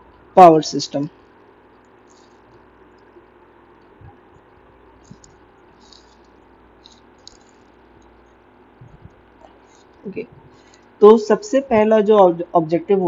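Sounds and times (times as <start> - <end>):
faint electrical hum and hiss: 0.0 - 13.0.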